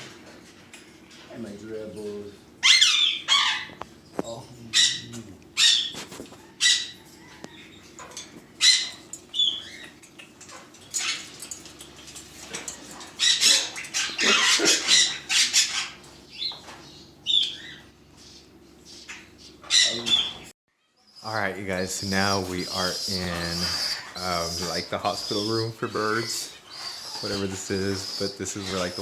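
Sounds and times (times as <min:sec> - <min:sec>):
birds squawking: 0:02.5 - 0:29.0.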